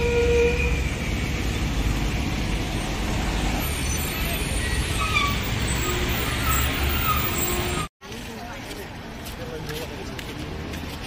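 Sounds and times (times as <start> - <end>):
traffic passing by: 0.0 - 11.0.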